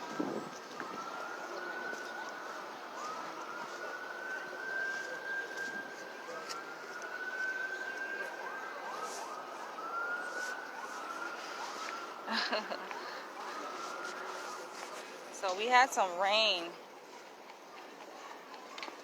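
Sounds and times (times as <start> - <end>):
emergency siren wailing: 0.0 - 16.6
city traffic hum: 0.0 - 19.0.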